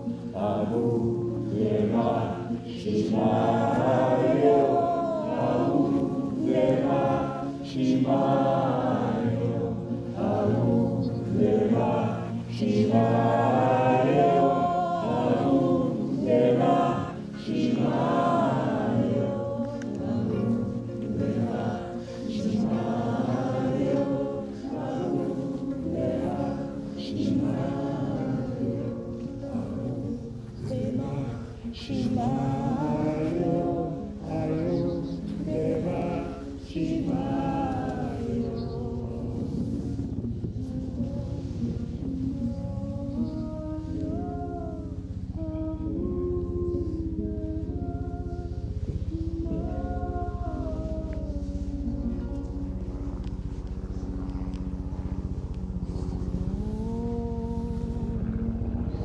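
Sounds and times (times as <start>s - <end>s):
group singing devotional song: 0.0s - 59.0s
held low drone tones: 0.0s - 59.0s.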